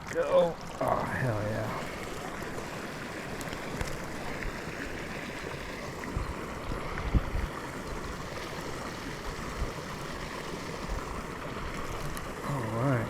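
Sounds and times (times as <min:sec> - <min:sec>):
hiss of water and air: 0:01.1 - 0:13.0.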